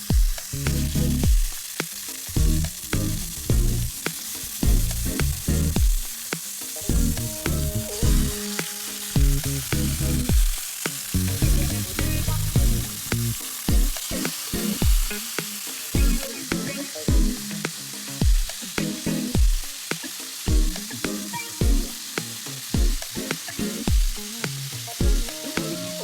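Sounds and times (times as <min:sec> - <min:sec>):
food sizzling in a pan: 0:00.0 - 0:26.0
music with bass beat: 0:00.0 - 0:26.0.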